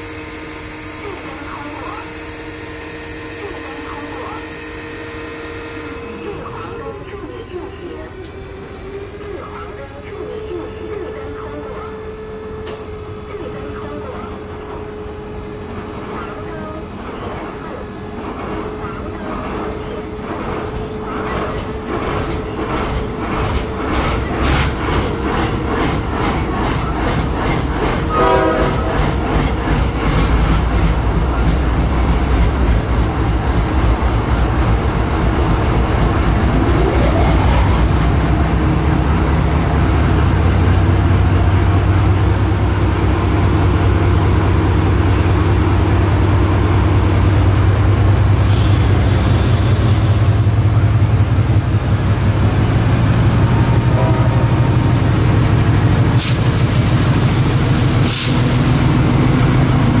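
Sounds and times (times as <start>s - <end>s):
diesel locomotive engine drone: 0.0s - 60.0s.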